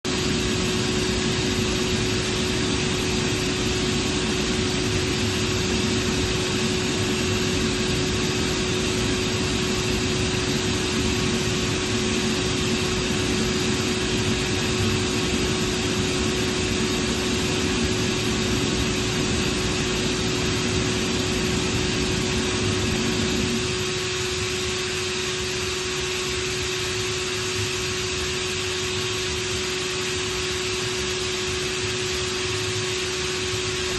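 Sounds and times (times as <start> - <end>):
air compressor humming: 0.1 - 33.9.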